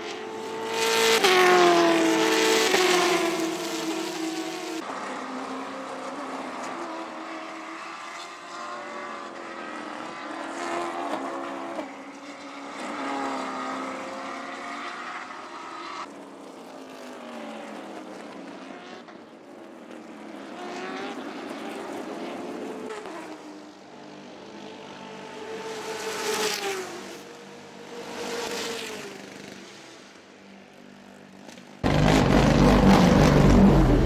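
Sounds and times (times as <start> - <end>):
racing car engines at full throttle: 0.0 - 34.0.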